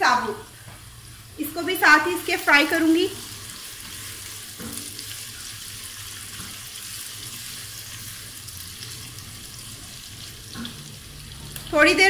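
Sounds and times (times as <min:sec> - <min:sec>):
onions sizzling in hot oil: 0:00.1 - 0:12.0.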